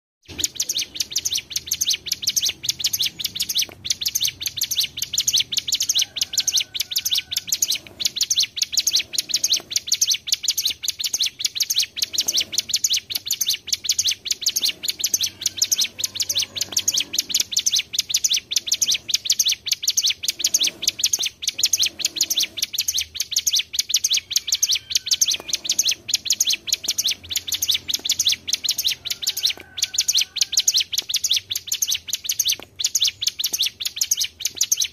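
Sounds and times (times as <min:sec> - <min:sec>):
birds singing rolling song: 0:00.2 - 0:34.9.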